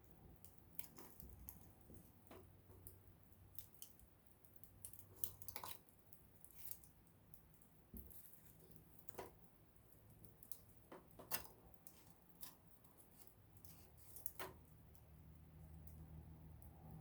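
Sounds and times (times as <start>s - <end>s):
campfire crackling: 0.3s - 17.0s.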